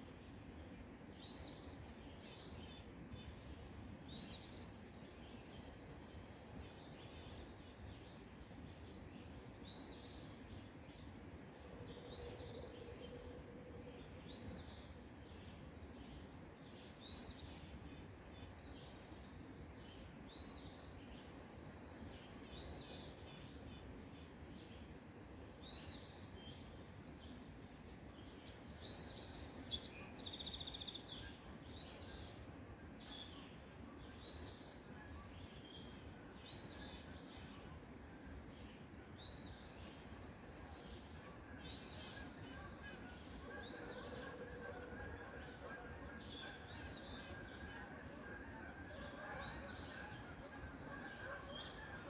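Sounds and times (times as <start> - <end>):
low background hiss: 0.0 - 52.0
songbirds singing: 0.0 - 52.0.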